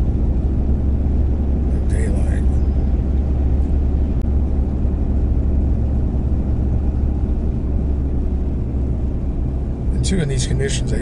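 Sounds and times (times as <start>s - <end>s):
diesel engine drone: 0.0s - 11.0s
road noise: 0.0s - 11.0s.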